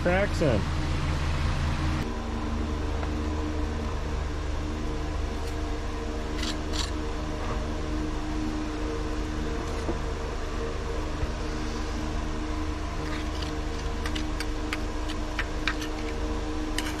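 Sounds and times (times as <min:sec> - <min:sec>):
motor hum: 0:00.0 - 0:17.0.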